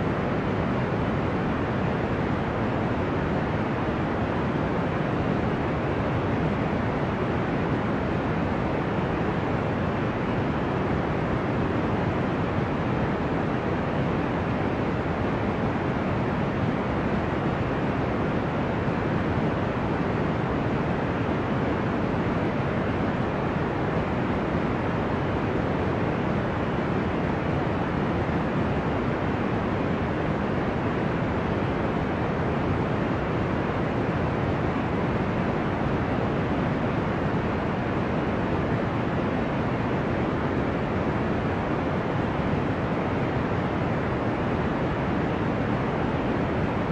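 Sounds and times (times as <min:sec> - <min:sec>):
deep white noise: 0:00.0 - 0:46.9.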